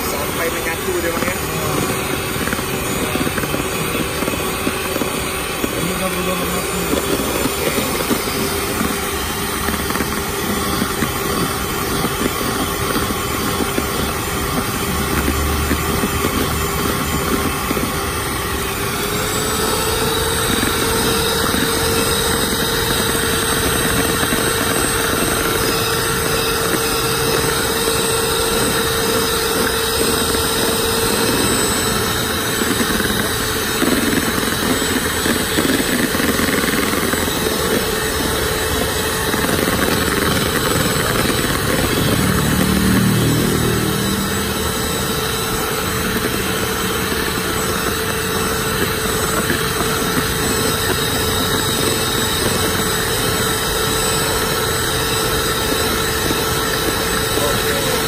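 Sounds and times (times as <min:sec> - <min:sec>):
electric hand mixer whirring: 0:00.0 - 0:58.0.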